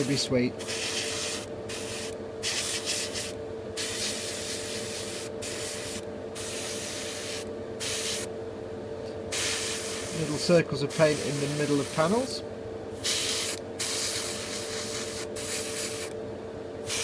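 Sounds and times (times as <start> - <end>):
extractor fan hum: 0.0 - 17.0
airbrush hissing: 0.6 - 8.3, 9.3 - 12.3, 12.9 - 16.1.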